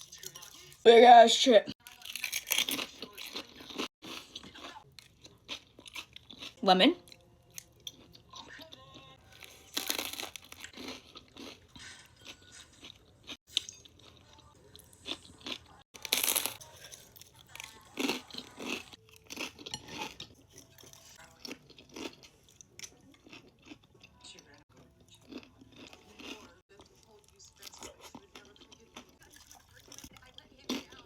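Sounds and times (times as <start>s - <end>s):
chewing crisp snack food: 0.0s - 0.8s, 1.7s - 31.0s.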